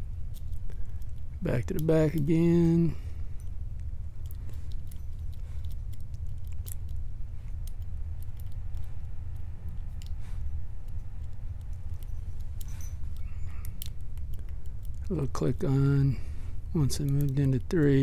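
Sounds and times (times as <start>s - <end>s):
steady low hum: 0.0s - 18.0s
lock pick clicking and scraping: 0.2s - 2.8s, 3.4s - 15.2s.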